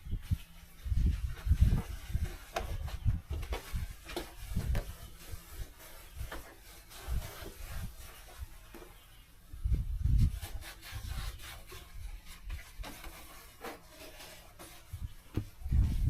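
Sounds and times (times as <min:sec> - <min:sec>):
rubbing and scraping: 0:00.1 - 0:16.0.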